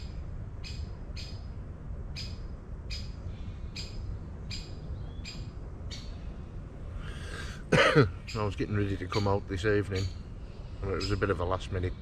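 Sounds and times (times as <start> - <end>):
woodpecker scolding calls: 0.0 - 1.5, 2.1 - 6.2, 7.1 - 12.0.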